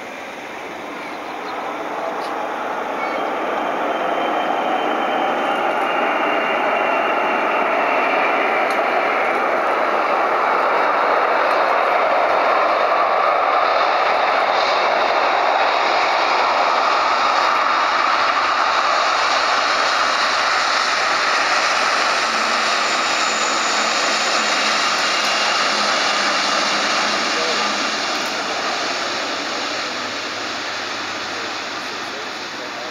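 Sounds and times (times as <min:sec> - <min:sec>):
jet engines rushing: 0:00.0 - 0:32.9.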